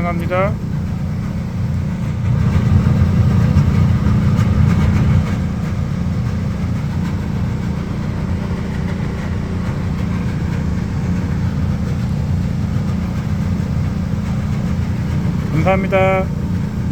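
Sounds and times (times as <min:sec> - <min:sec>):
refrigeration unit humming: 0:00.0 - 0:16.9.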